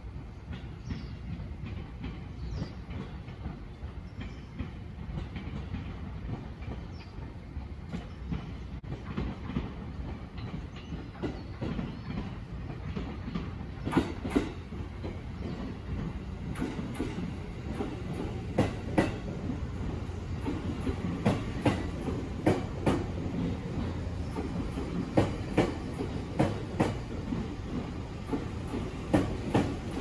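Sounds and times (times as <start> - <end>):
train rumbling into station: 0.0 - 30.0
sharp train clacks: 0.1 - 30.0
wheels clicking over rail joints: 0.5 - 30.0.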